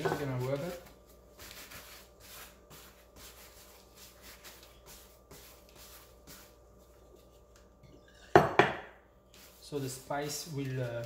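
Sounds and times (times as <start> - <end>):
hand rubbing meat swishing: 0.0 - 7.5, 9.3 - 11.0.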